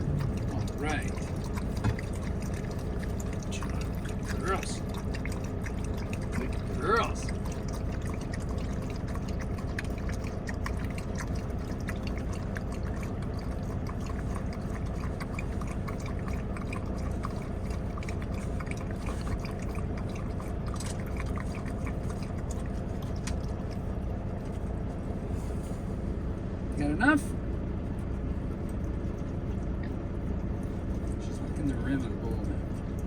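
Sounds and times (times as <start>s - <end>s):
dog lapping water: 0.0s - 25.4s, 28.4s - 33.0s
steady low hum: 0.0s - 33.0s.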